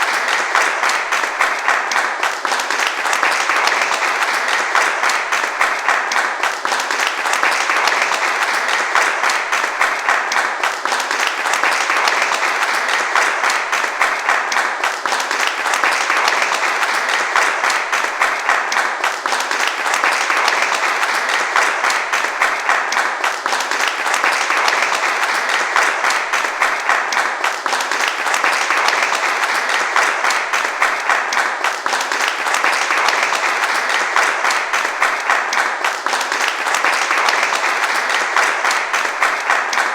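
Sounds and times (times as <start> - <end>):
applause: 0.0 - 39.9.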